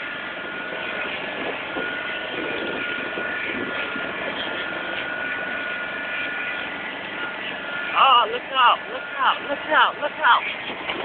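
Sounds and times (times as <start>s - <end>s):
high whine: 0.0s - 11.0s
lawn mower engine running: 0.0s - 11.0s.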